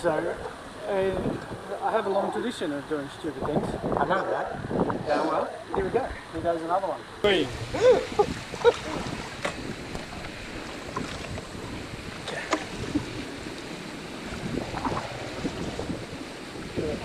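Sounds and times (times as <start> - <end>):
wind on the microphone: 0.0 - 6.6, 7.2 - 17.0
seawater washing around a hull: 0.0 - 17.0.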